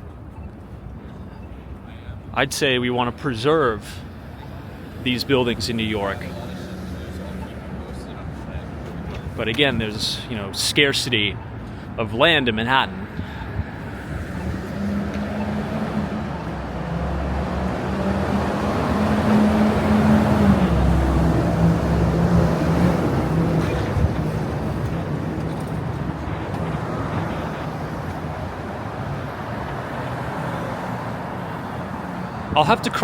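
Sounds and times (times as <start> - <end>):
street traffic: 0.0 - 33.0
large vehicle engine humming: 3.2 - 33.0.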